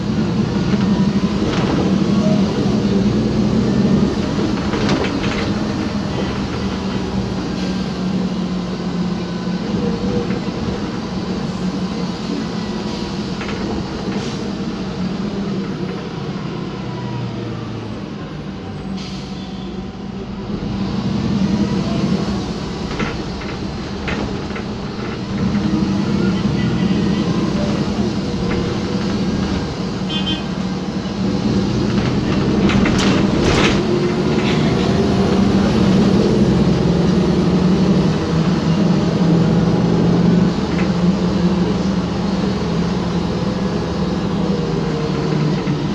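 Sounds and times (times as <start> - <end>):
bus engine and road noise: 0.0 - 45.9.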